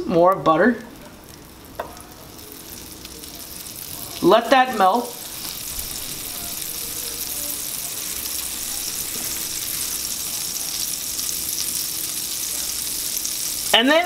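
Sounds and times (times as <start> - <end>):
butter sizzling in a frying pan: 0.5 - 14.0.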